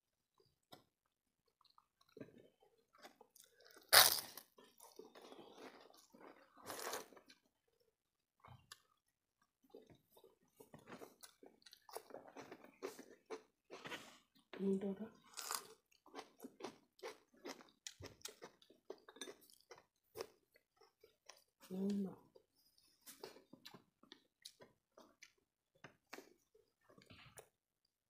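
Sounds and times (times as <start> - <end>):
chewing and wet mouth noises: 0.3 - 14.6, 15.2 - 27.9.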